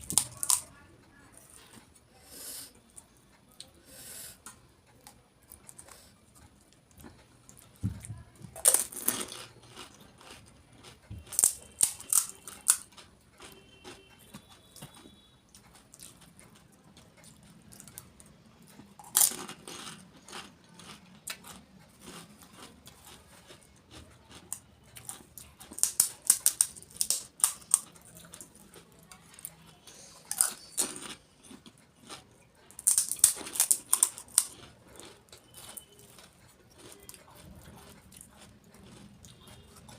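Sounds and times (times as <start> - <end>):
crunching crisp shells: 0.0 - 0.8, 8.5 - 39.9
quiet chewing: 0.0 - 39.9.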